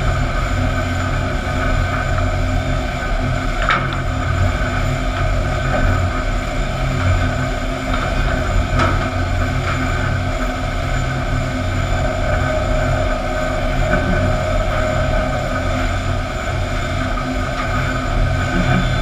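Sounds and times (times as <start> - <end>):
machinery rumble and hum: 0.0 - 19.0.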